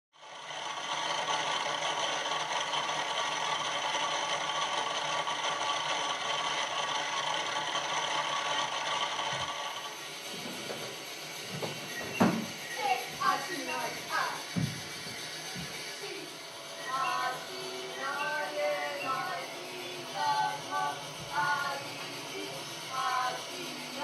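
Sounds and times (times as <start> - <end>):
dense rattling and scraping: 1.0 - 24.0.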